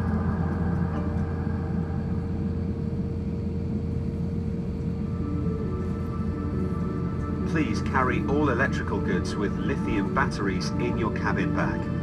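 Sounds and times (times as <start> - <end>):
aircraft cabin hum: 0.0 - 12.0
constant high whine: 0.0 - 12.0.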